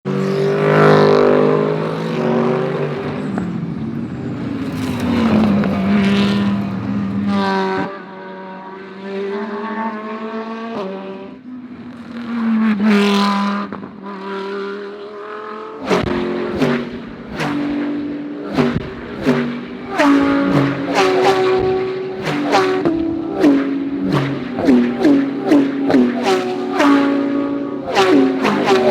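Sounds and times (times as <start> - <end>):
race car engines passing: 0.1 - 28.9.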